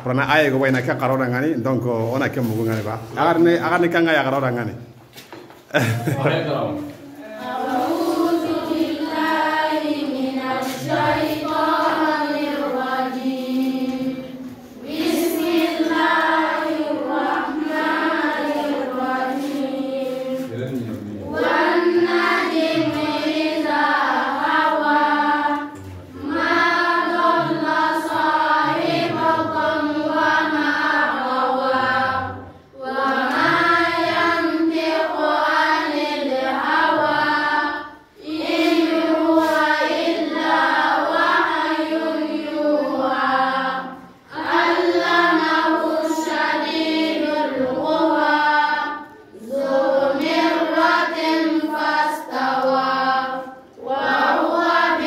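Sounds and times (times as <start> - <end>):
children chanting recitation: 6.8 - 55.0.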